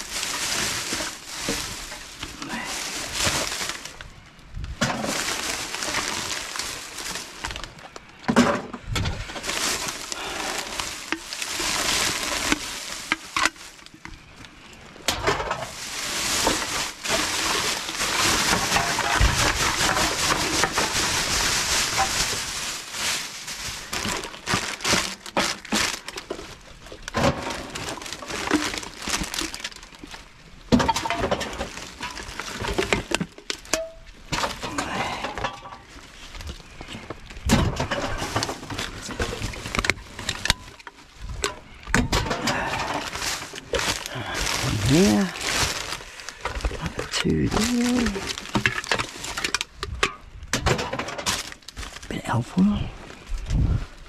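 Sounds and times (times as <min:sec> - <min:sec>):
items knocking and clattering: 0:00.0 - 0:04.0, 0:04.6 - 0:14.3, 0:15.0 - 0:52.4
rubbish bags rustling: 0:00.0 - 0:54.0.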